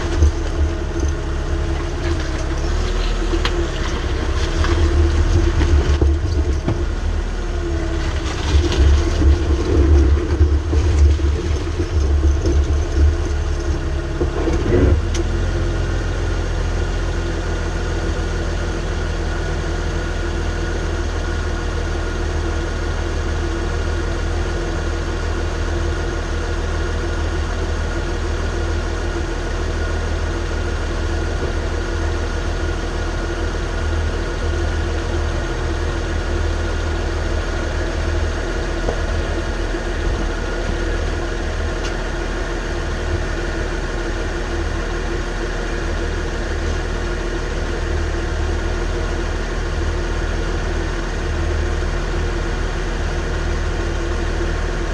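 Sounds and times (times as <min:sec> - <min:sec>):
bearing whine: 0:00.0 - 0:54.9
vehicle low drone: 0:00.0 - 0:54.9.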